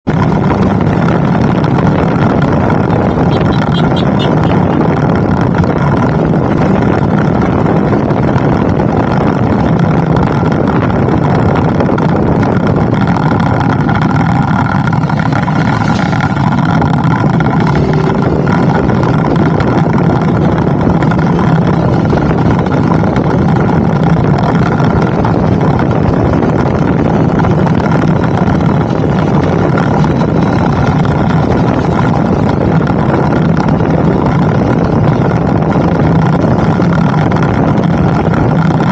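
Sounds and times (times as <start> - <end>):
rushing noise of moving vehicle: 0.0 - 38.9
vehicle engine running: 0.0 - 38.9.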